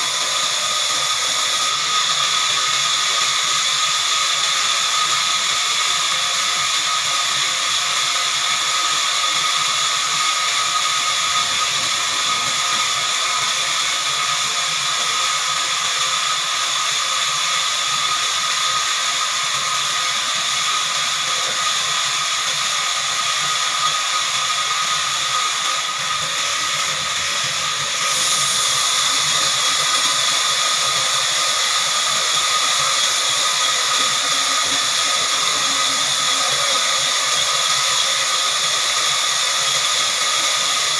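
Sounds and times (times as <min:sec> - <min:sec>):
band sawmill cutting log: 0:00.0 - 0:40.9.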